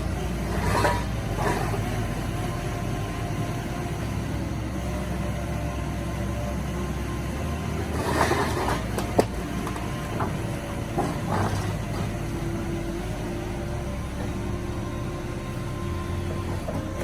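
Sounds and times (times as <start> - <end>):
bursts of rough noise: 0.0 - 17.0
heavy machine engine running: 0.0 - 17.0.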